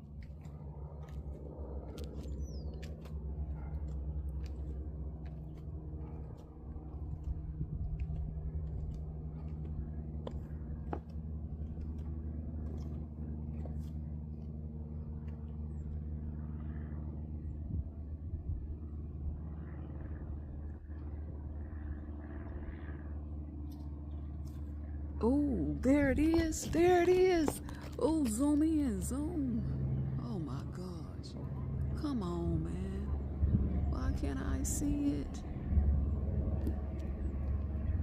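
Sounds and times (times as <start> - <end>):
low machine hum: 0.0 - 38.0.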